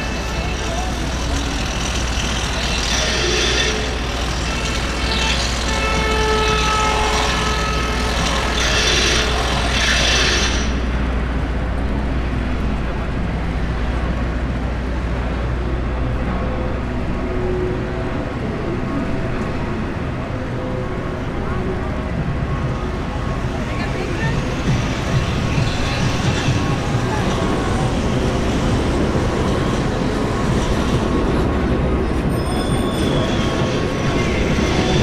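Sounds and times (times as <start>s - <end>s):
traffic rumble: 0.0s - 35.0s
voices of passers-by: 0.0s - 35.0s.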